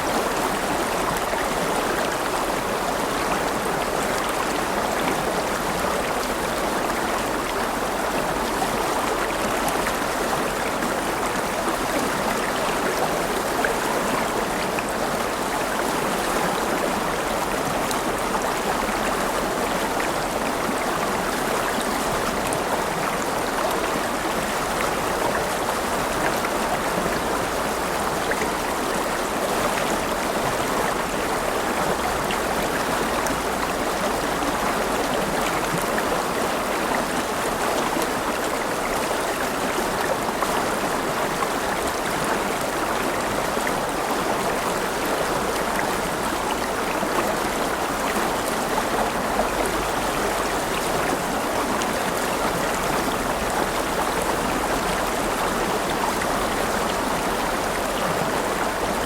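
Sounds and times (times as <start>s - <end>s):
river water flowing over stones: 0.0s - 59.0s.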